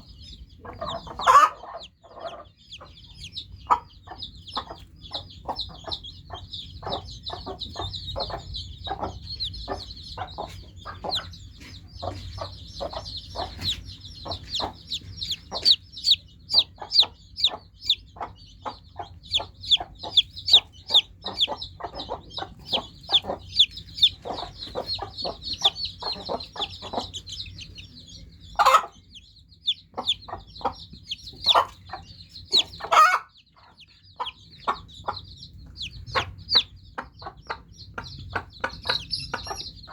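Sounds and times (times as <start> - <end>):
chicks peeping: 0.0 - 39.9
sharp chick calls: 0.0 - 39.9.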